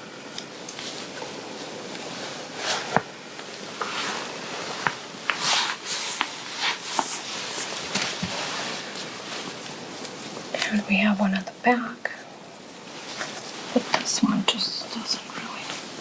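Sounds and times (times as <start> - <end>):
fabric rustling: 0.3 - 11.1, 11.8 - 16.0.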